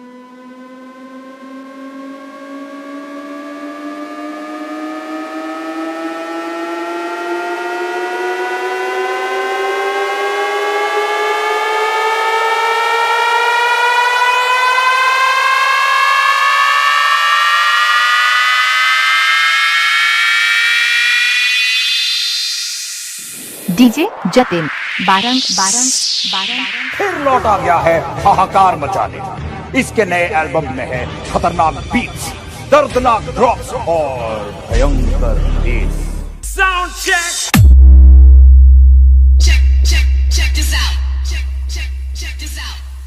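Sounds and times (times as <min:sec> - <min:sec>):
electronic synth riser: 0:00.0 - 0:32.8, 0:34.3 - 0:43.0.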